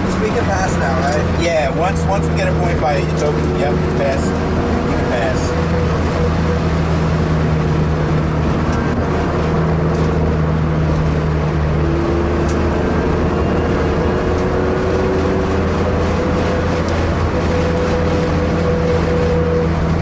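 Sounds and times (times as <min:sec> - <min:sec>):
car engine running hard: 0:00.0 - 0:20.0
road and wind noise: 0:00.0 - 0:20.0.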